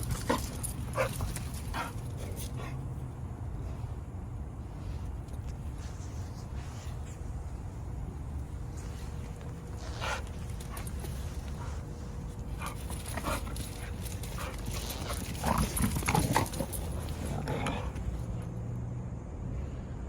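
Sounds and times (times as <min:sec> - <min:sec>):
dogs playing and vocalizing: 0:00.0 - 0:18.6.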